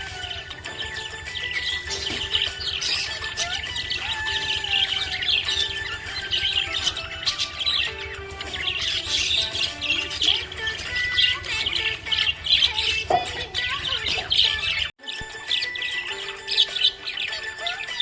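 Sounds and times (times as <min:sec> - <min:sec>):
budgerigars chirping and chattering: 0:00.0 - 0:18.0
music playing: 0:00.0 - 0:18.0.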